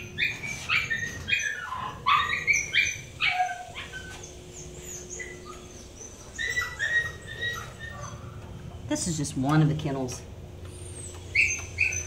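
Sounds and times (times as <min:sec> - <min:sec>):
dogs barking and yipping: 0:00.0 - 0:08.8, 0:10.7 - 0:12.0.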